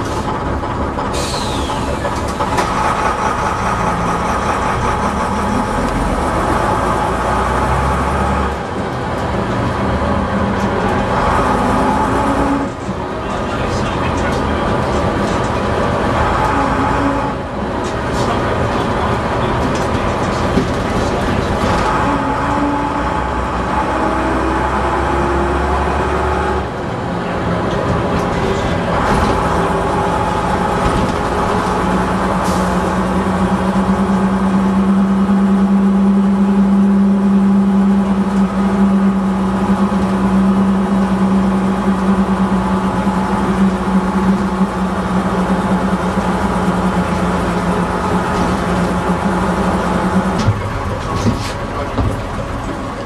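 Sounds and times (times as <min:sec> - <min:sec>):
bus engine whining: 0:00.0 - 0:53.0.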